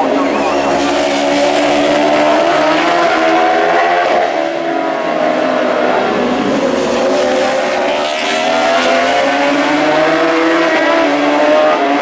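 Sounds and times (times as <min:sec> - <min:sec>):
motorcycle engines at high revs: 0:00.0 - 0:12.0.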